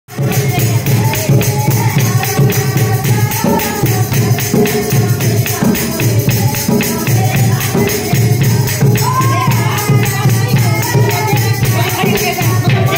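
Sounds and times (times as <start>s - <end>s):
jingling percussion: 0.1s - 12.9s
women singing folk song: 0.1s - 12.9s
hand claps: 0.2s - 12.9s
hand drum playing: 0.2s - 12.9s.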